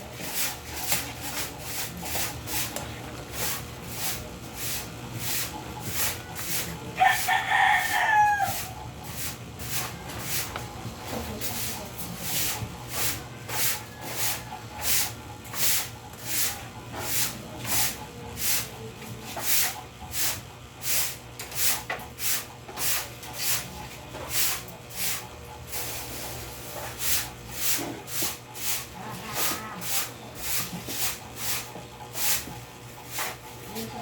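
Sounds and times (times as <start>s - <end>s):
rhythmic scraping strokes: 0.0s - 34.0s.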